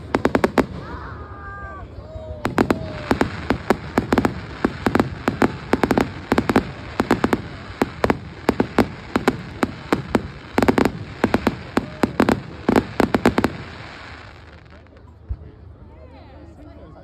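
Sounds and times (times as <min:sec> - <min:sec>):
fireworks bangs and cracks: 0:00.0 - 0:01.4, 0:02.3 - 0:15.5.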